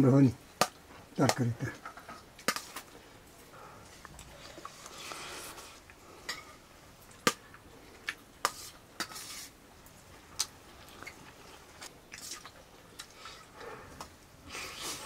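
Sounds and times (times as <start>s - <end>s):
soft chewing: 2.1s - 15.0s.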